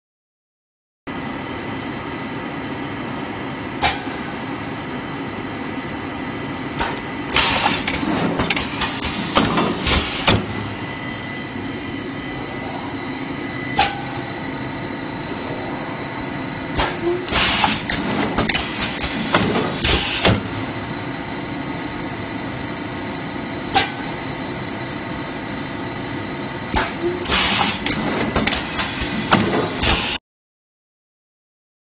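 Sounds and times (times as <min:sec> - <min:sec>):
machine hum and whine: 0:01.1 - 0:30.2.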